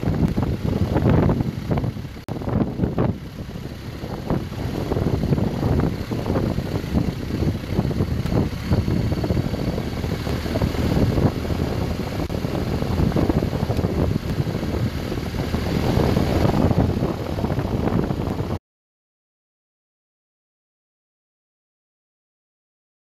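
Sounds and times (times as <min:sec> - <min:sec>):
motorcycle engine running: 0:00.0 - 0:18.6
wind buffeting microphone: 0:00.0 - 0:18.6.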